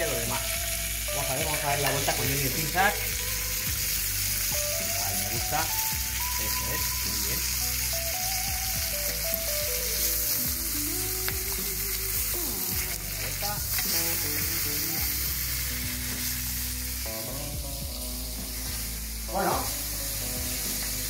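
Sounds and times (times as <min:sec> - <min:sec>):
seafood sizzling on a griddle: 0:00.0 - 0:21.0.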